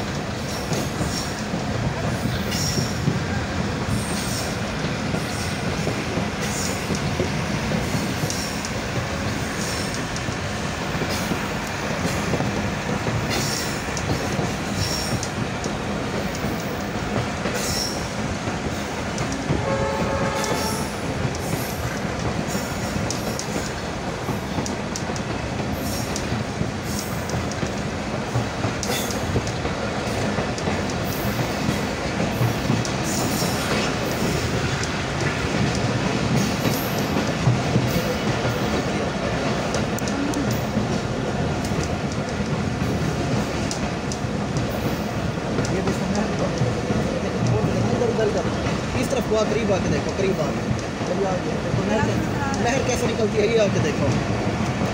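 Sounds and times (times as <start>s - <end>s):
rumble of wheels on track: 0.0s - 54.9s.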